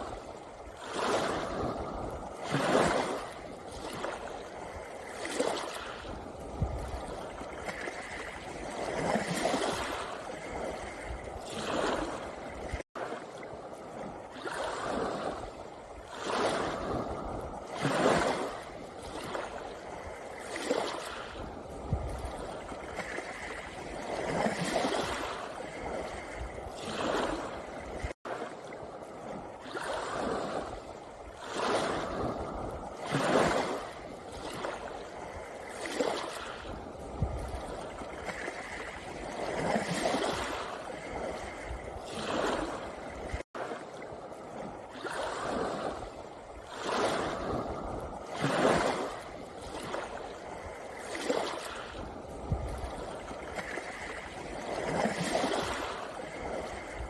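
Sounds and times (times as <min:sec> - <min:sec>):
waves washing onto pebble beach: 0:00.0 - 0:57.0.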